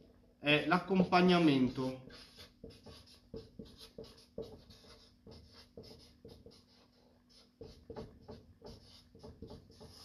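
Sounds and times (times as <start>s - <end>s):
marker pen writing on whiteboard: 0.9s - 10.0s.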